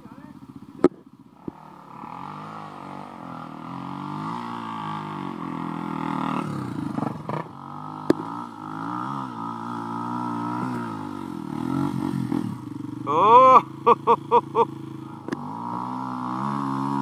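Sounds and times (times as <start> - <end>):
motorbike engine revving: 0.5 - 17.0.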